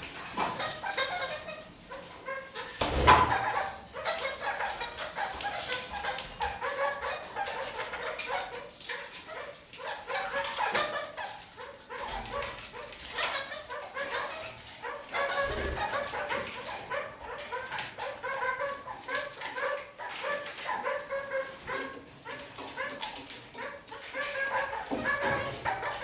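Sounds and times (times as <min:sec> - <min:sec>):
parakeets chattering: 0:00.0 - 0:26.0.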